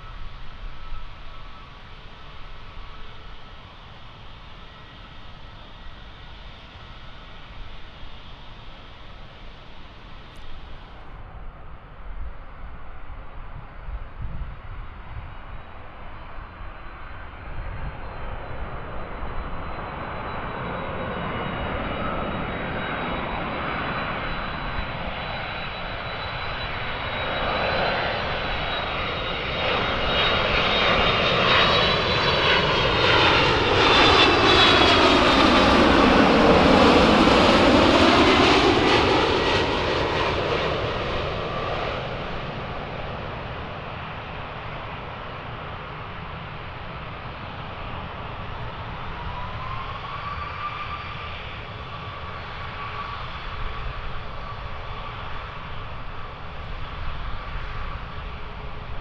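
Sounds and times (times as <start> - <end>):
jet engines whine and rumble: 0.0 - 59.0.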